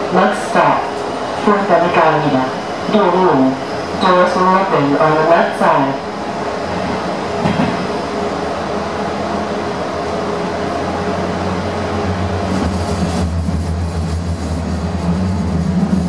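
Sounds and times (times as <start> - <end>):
low train hum: 0.0 - 16.0
train rail running noise: 0.0 - 16.0.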